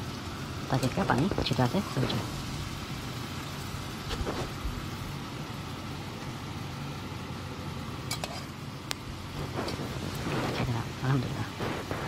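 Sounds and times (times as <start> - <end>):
chicken sizzling in oil: 0.0 - 12.0
low steady hum: 0.0 - 12.0.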